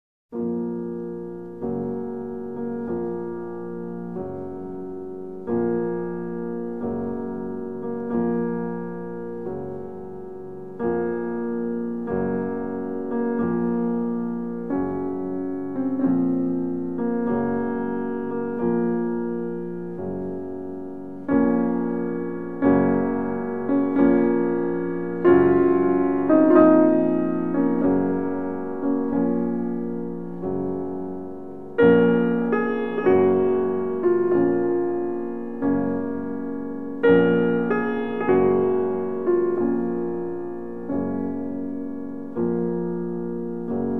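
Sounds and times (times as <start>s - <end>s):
slow solo piano: 0.3s - 43.9s.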